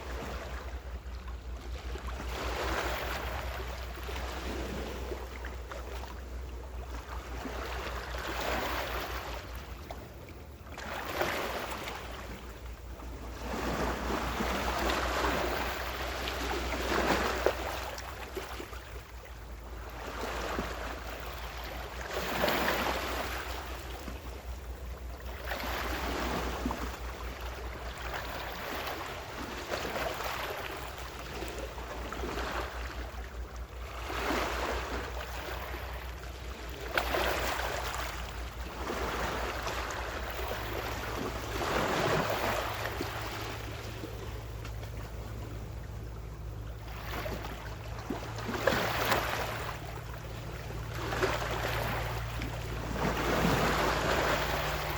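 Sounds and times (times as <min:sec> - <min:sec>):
ocean waves washing on shore: 0:00.0 - 0:54.9
steady low hum: 0:00.0 - 0:54.9.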